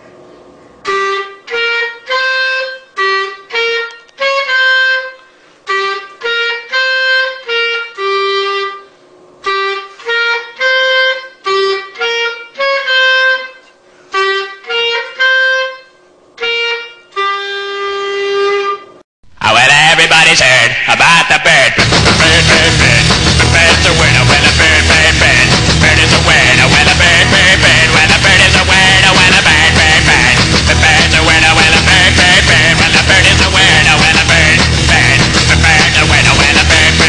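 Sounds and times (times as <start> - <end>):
reedy instrument melody: 0.8 - 18.9, 21.8 - 37.0.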